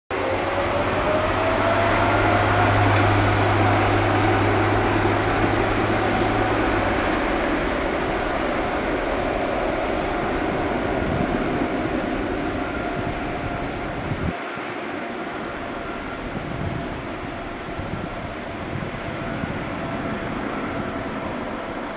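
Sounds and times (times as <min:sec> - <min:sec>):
jet engines running with whine: 0:00.1 - 0:21.9.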